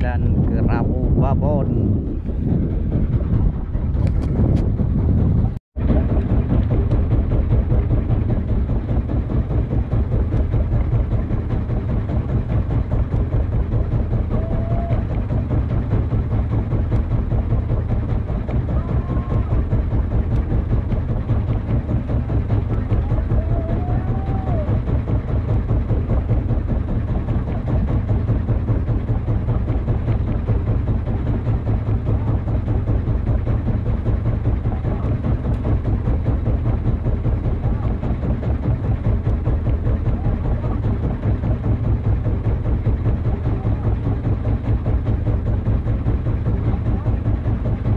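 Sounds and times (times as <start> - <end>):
boat engine idling: 0.0 - 47.9.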